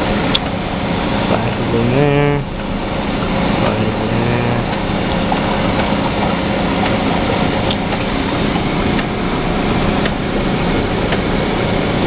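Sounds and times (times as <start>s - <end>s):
cooling tower rushing noise: 0.0s - 12.0s
low hum: 0.0s - 12.0s.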